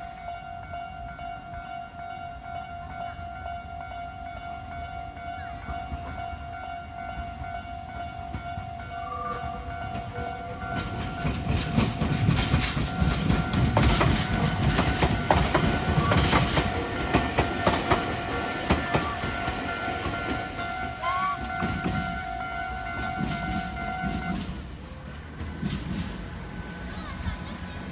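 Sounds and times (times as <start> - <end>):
crossing warning bell ringing: 0.0 - 27.9
train wheels clacking on rails: 2.5 - 27.9.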